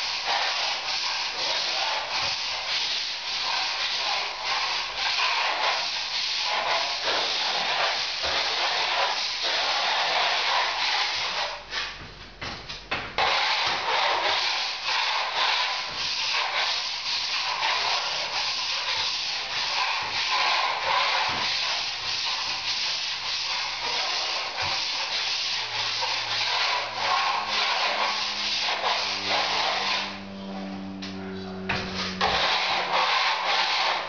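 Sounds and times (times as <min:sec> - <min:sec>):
steel scraper scraping plaster: 0:00.0 - 0:12.0, 0:13.2 - 0:30.3, 0:31.7 - 0:34.0.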